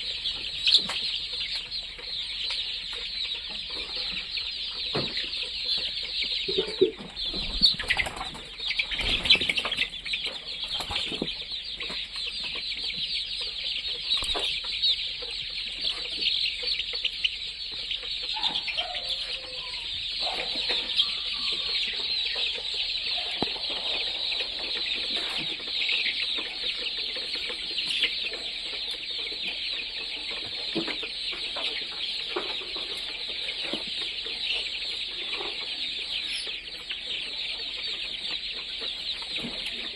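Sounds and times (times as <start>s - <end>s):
chickens chirping and clucking: 0.0s - 39.9s.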